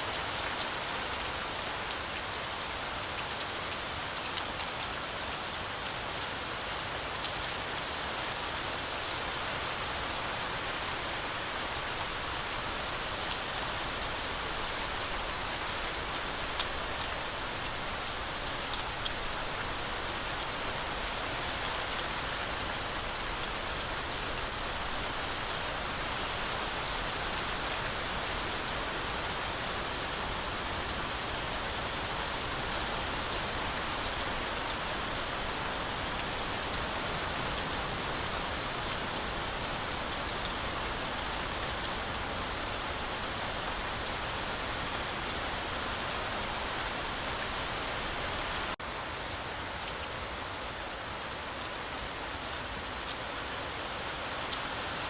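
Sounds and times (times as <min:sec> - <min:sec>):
heavy rain through trees: 0:00.0 - 0:55.0.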